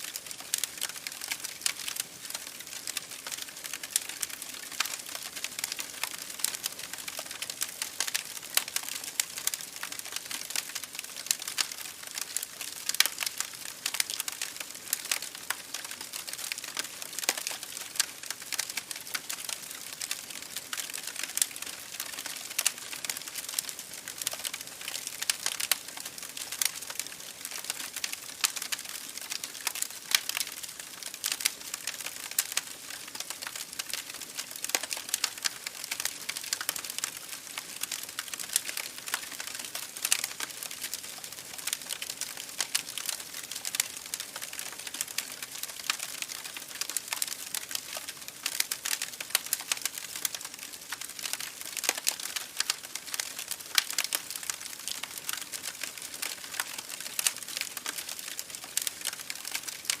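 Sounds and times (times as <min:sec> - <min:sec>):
campfire crackling: 0:00.0 - 1:00.0.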